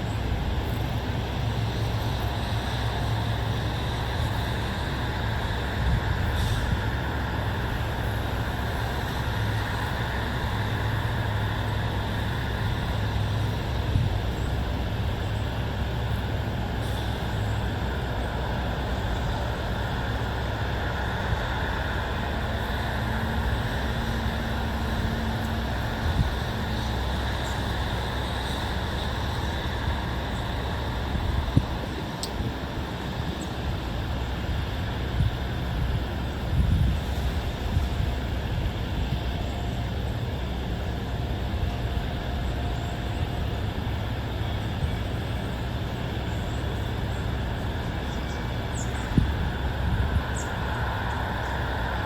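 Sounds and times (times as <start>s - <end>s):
distant road traffic rumble: 0.0s - 52.0s.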